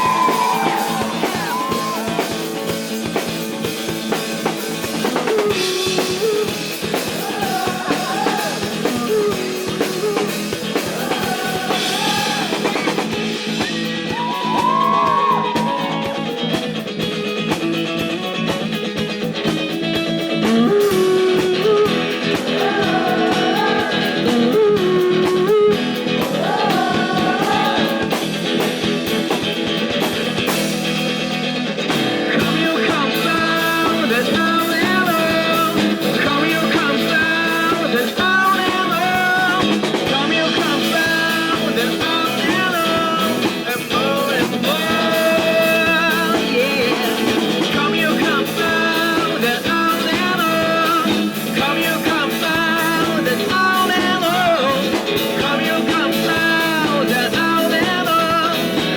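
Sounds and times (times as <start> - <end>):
electric guitar with bending pitch: 0.0 - 58.9
live rock band playing: 0.0 - 58.9.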